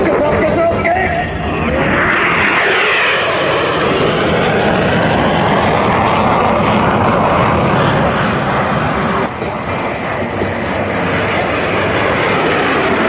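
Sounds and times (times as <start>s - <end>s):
fighter jet roaring past: 0.0s - 13.0s.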